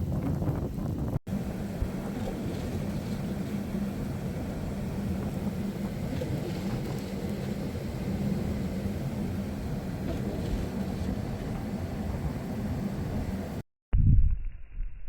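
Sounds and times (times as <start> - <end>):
vehicle road and engine rumble: 0.0 - 13.6.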